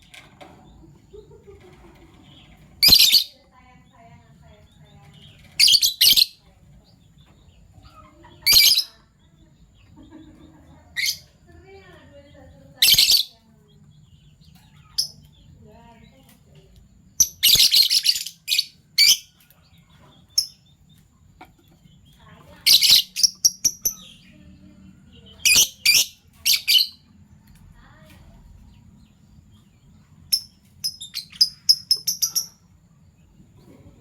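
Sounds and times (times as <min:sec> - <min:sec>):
lovebirds chirping: 0:00.0 - 0:34.0.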